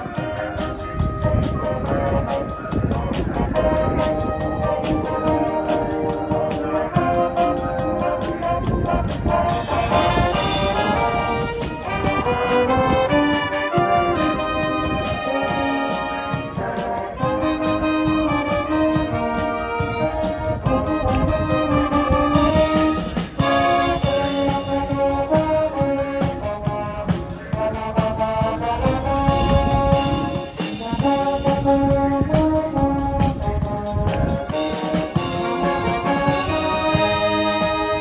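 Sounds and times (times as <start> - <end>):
brass band playing: 0.0 - 38.0
drum kit beat: 4.0 - 38.0.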